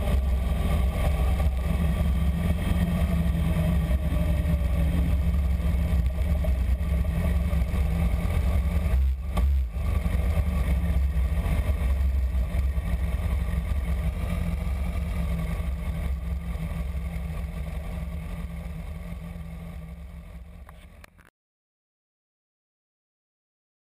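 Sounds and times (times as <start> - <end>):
motorcycle engine at low revs: 0.0 - 21.3.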